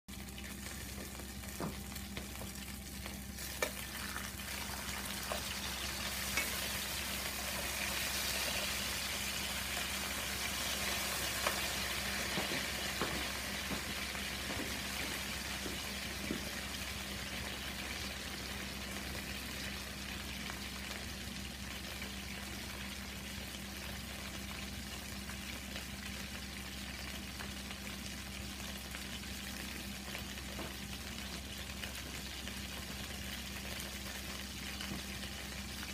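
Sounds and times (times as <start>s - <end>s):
chicken sizzling in oil: 0.1s - 35.9s.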